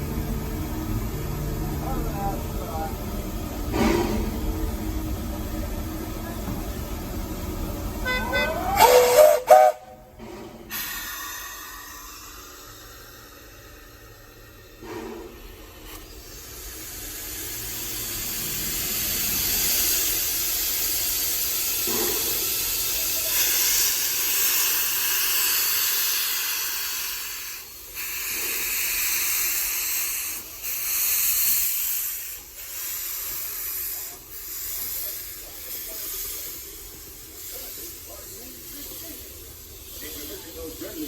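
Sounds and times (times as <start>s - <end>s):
steam locomotive venting steam: 0.0s - 41.0s.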